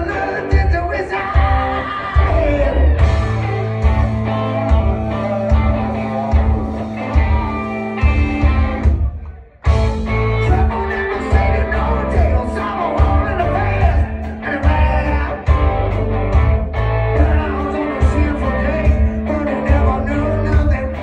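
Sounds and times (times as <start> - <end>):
person singing: 0.0 - 9.1, 9.7 - 16.3, 17.0 - 21.0
live rock band: 0.0 - 21.0.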